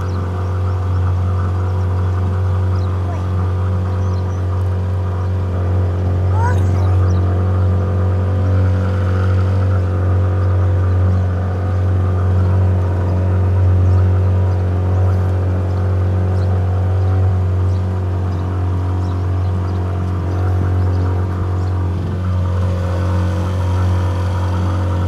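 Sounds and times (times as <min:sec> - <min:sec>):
boat motor droning: 0:00.0 - 0:25.0.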